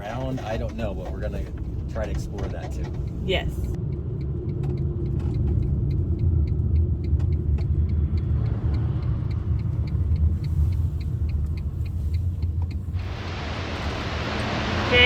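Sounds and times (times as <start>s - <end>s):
light regular ticking: 0.0s - 13.2s
van engine and road noise: 0.0s - 15.0s.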